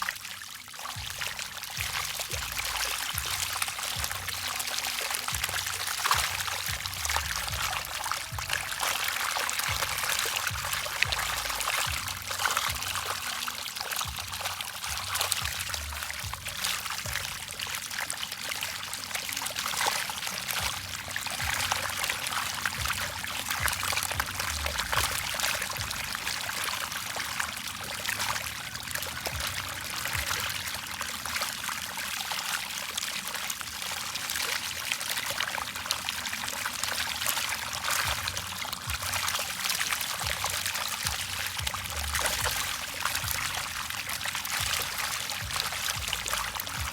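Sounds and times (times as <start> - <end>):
water splashing and trickling: 0.0 - 46.9.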